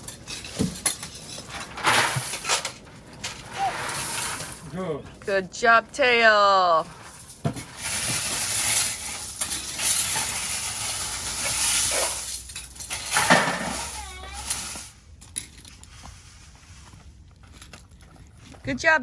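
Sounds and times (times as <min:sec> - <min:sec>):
gravel rattling and scraping: 0:00.0 - 0:19.0.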